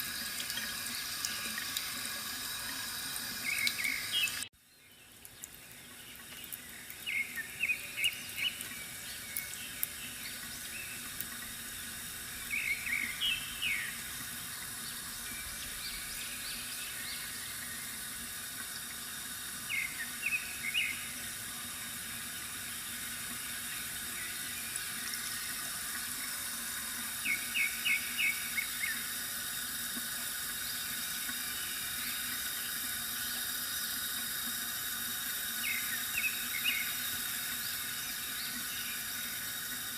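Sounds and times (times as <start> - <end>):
bamboo fountain trickling: 0.0 - 39.9.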